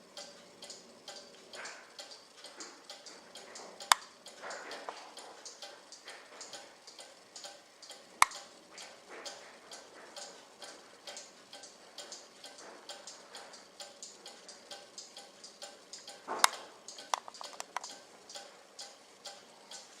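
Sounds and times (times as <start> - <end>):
clock ticking: 0.0 - 20.0
light clicks: 0.2 - 19.9.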